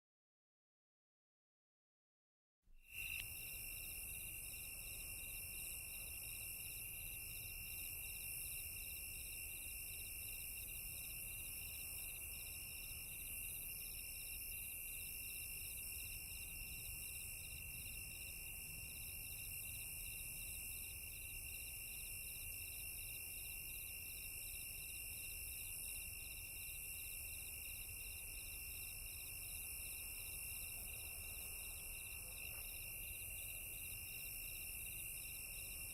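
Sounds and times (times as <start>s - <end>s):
crickets chirping: 2.8s - 35.9s.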